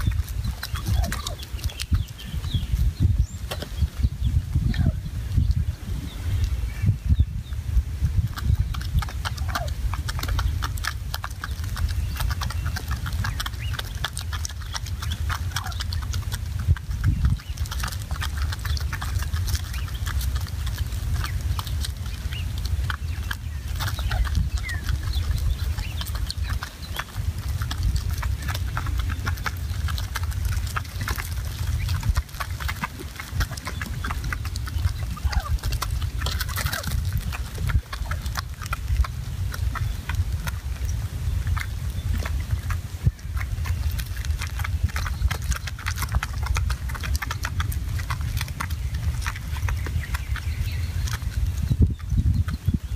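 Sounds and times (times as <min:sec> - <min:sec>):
steady low rumble: 0:00.0 - 0:52.9
turkeys clucking and purring: 0:00.0 - 0:52.9.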